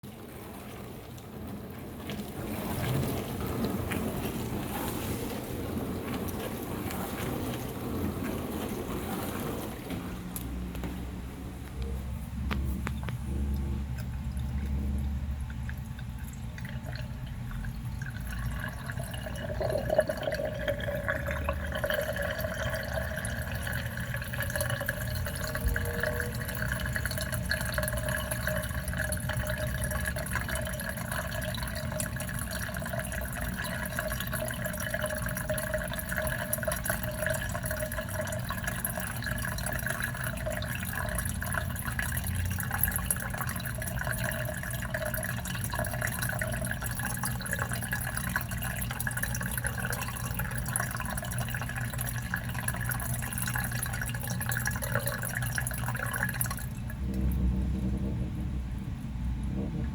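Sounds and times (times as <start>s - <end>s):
dishwasher running: 0.0s - 59.9s.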